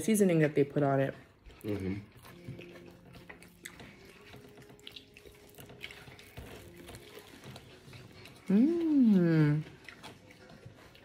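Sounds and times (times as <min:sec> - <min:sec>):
person chewing food: 0:01.1 - 0:11.0.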